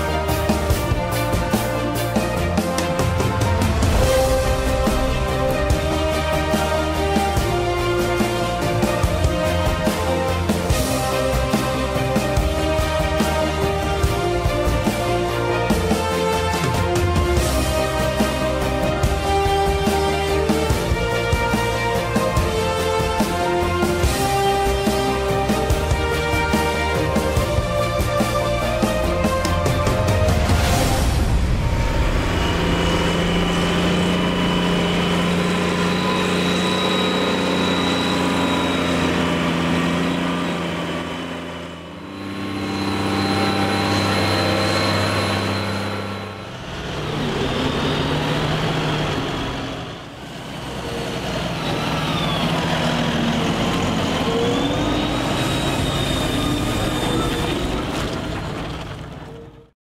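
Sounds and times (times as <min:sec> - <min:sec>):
high engine whine: 0:00.0 - 0:59.7
tractor engine hum: 0:00.0 - 0:59.7.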